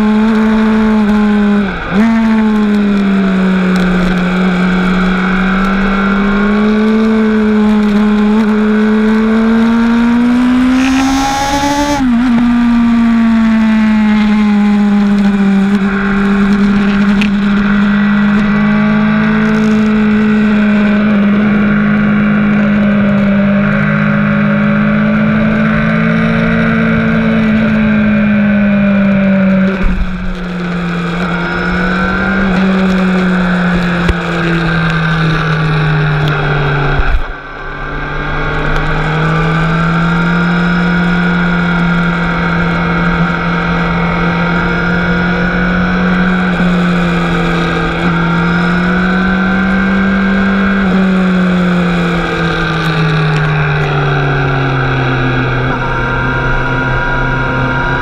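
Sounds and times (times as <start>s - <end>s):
motorcycle engine droning: 0.0s - 58.0s.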